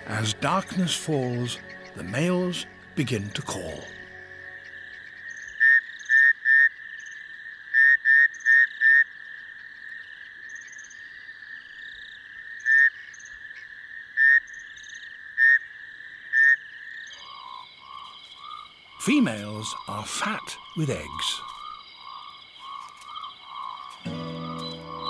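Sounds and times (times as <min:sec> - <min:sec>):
chorus of frogs calling: 0:00.0 - 0:25.0
loud pulsed frog calls: 0:00.0 - 0:25.0.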